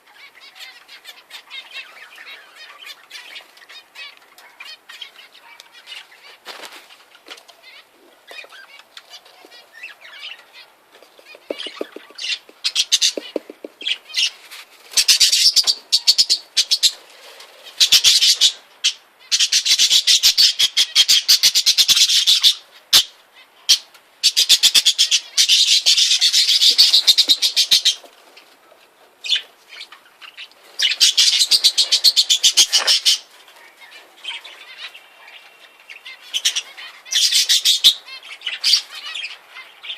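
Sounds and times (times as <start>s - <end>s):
cage birds chattering: 0.0s - 39.9s.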